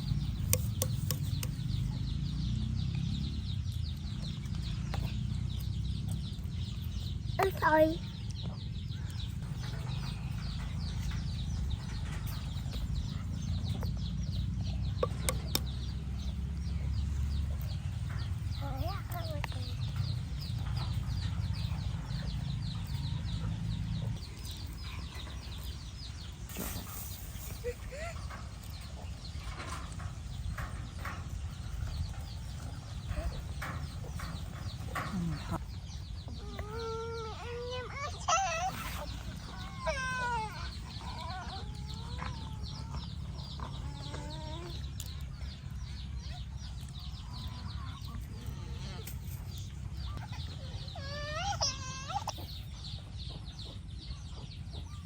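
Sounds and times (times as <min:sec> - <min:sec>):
chickens chirping: 0:00.0 - 0:55.0.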